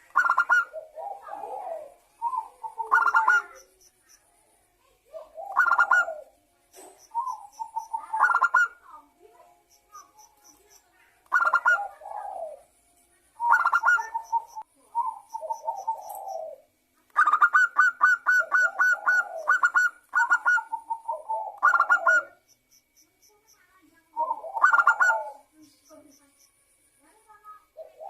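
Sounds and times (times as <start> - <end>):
dove cooing and trilling: 0.0 - 4.3, 5.1 - 10.7, 11.3 - 12.7, 13.4 - 22.5, 24.1 - 26.2, 27.7 - 28.0.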